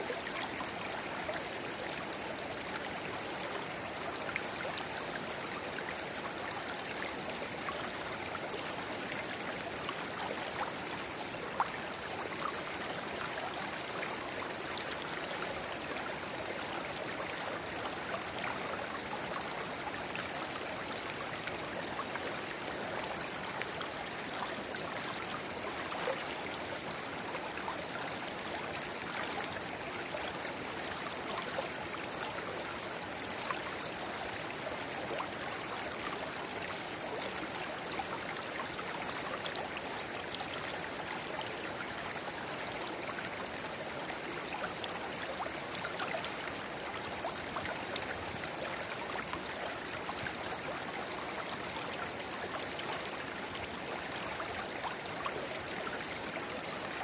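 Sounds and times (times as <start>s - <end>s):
river water babbling: 0.0s - 57.0s.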